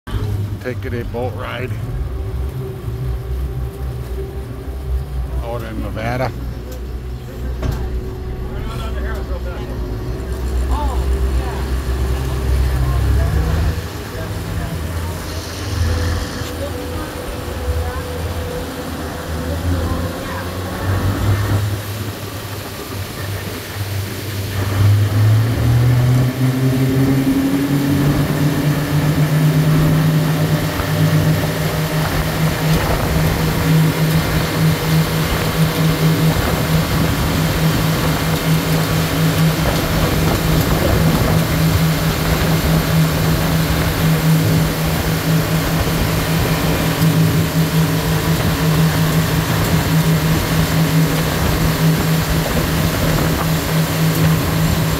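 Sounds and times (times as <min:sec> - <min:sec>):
boat engine drone: 0:00.0 - 0:54.9
wind and water hiss: 0:10.4 - 0:54.9.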